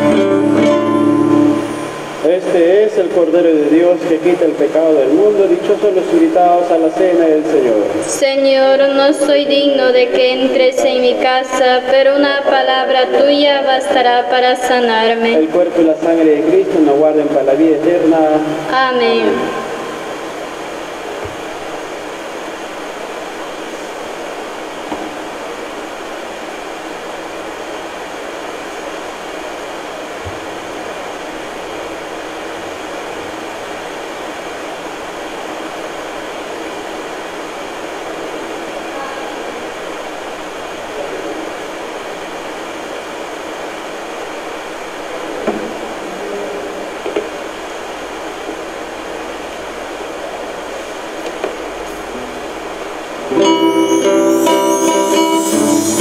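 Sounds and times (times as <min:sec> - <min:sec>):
background hiss: 0:00.0 - 0:56.0
faint constant tones: 0:00.0 - 0:56.0.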